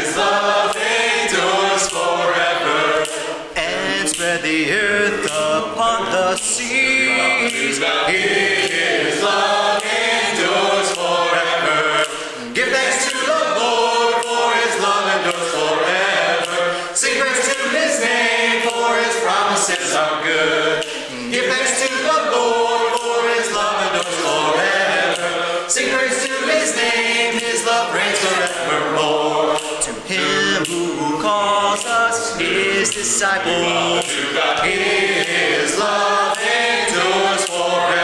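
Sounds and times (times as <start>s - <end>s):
congregation singing a hymn: 0.0s - 38.0s.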